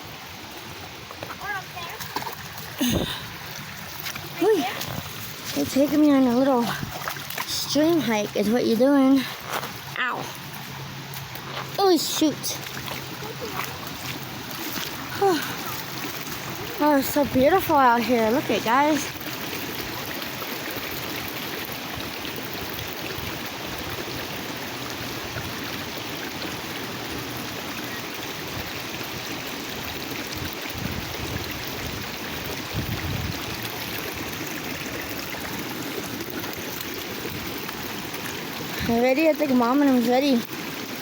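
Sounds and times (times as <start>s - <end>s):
flowing stream rushing: 0.0s - 41.0s.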